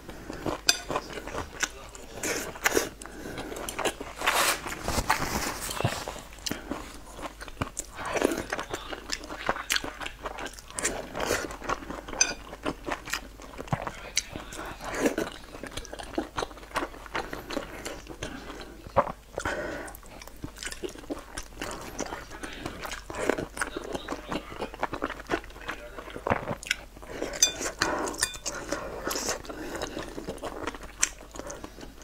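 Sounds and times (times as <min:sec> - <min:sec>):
chewing and biting: 0:00.0 - 0:32.0.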